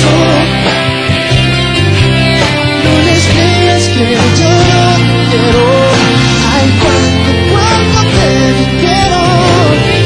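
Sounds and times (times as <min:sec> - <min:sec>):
bass line: 0:00.0 - 0:10.0
guitar strumming: 0:00.0 - 0:10.0.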